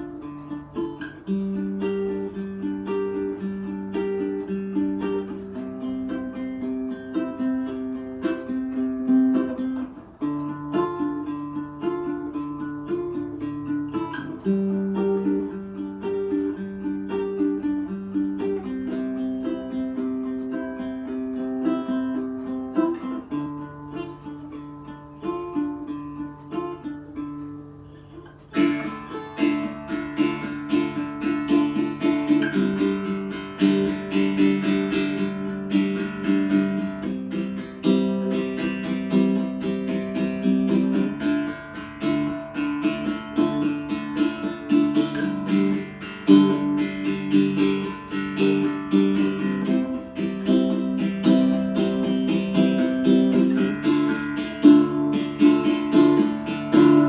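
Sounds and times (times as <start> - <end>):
guitar background music: 0.0 - 57.0.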